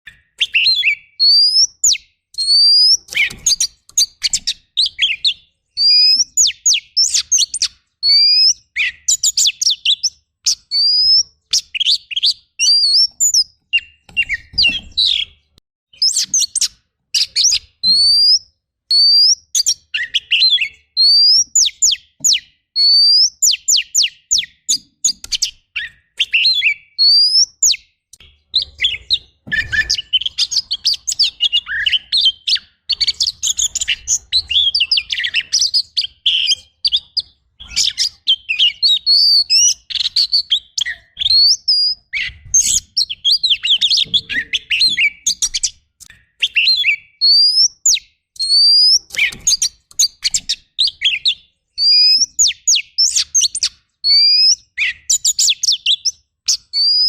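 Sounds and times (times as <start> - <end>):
bird singing whistles and trills: 0.1 - 57.0.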